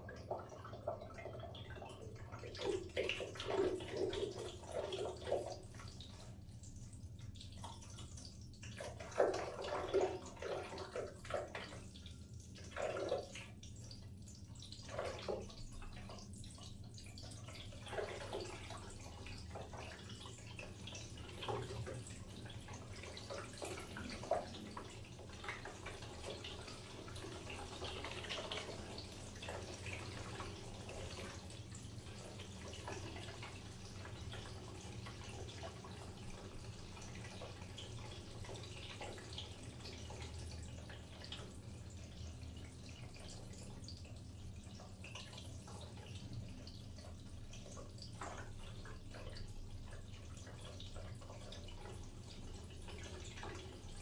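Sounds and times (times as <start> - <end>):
water dripping and splashing: 0.0 - 54.0.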